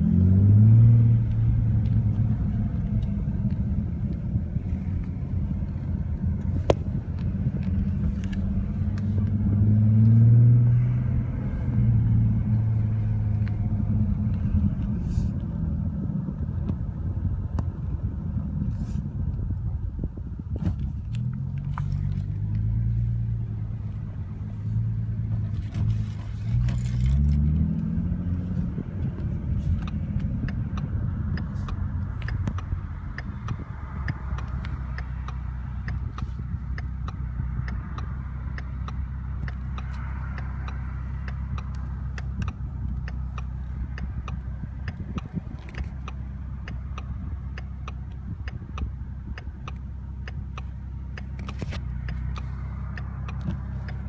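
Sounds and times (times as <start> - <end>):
car exhaust drone: 0.0 - 54.0
wind and road noise: 0.0 - 54.0.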